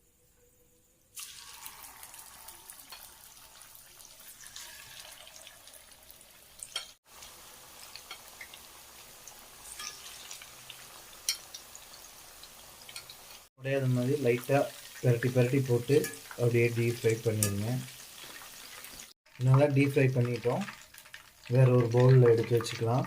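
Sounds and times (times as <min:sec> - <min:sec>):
oil sizzling and crackling: 0:00.9 - 0:23.0.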